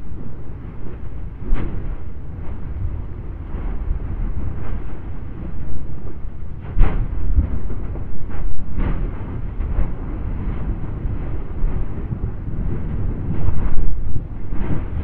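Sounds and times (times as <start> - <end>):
deep thunderous rumble: 0.0 - 15.0.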